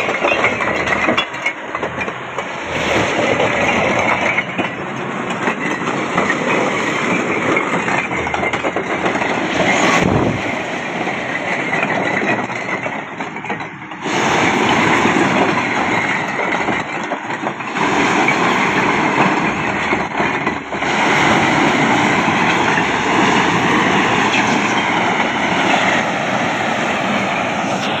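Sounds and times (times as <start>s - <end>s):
bricks clattering onto a pile: 0.0s - 23.5s
tractor engine running: 0.0s - 28.0s.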